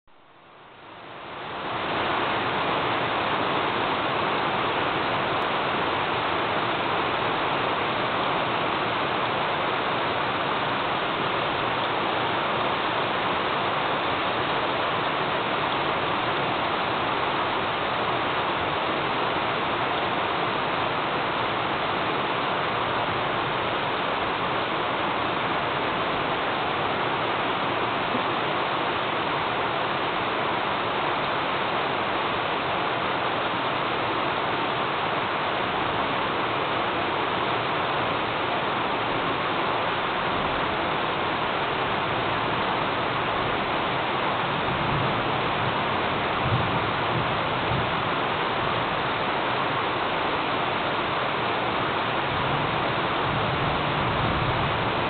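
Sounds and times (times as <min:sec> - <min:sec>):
rain pouring: 0:00.1 - 0:55.0.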